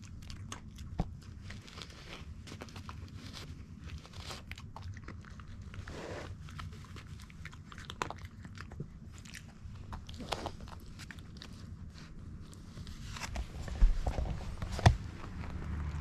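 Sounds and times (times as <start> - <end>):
dog crunching hard treats: 0.0 - 12.4, 13.5 - 16.0.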